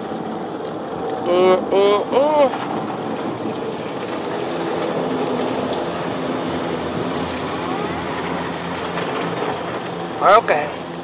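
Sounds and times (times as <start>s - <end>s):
car wash machinery hum: 0.0s - 11.0s
water spraying over car: 0.0s - 11.0s.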